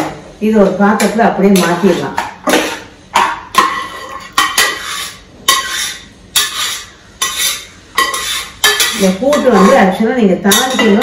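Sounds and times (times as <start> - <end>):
spoon scraping metal pot: 1.0 - 11.0.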